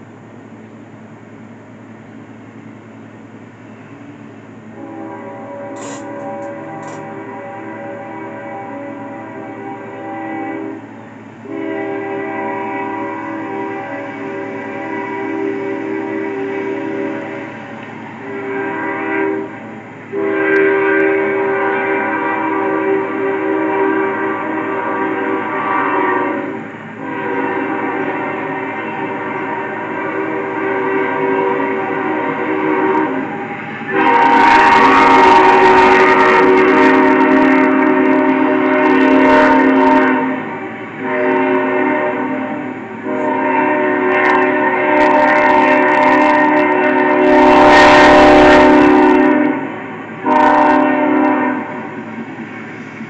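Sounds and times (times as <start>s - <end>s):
train air horn blasts: 4.7s - 52.2s.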